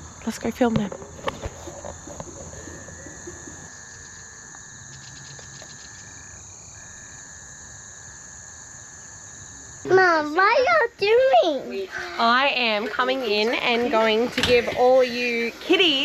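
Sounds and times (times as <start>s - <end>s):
insects and frogs trilling: 0.0s - 16.0s.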